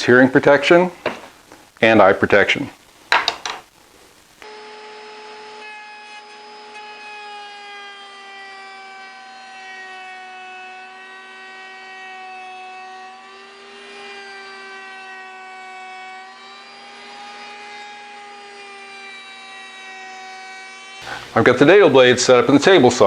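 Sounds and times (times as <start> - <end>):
router whining: 4.4 - 23.0.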